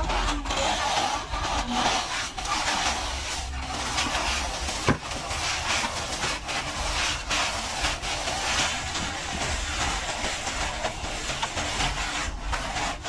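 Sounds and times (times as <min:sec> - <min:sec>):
trowel scraping across plaster: 0:00.0 - 0:13.0.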